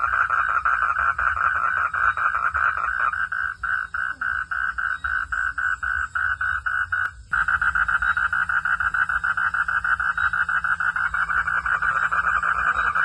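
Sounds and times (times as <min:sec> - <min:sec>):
frogs calling in pulses: 0:00.0 - 0:13.0.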